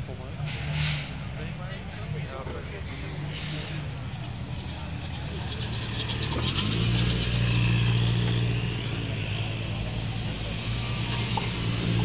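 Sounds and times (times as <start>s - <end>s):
rally car engine driving past: 0.2s - 12.0s.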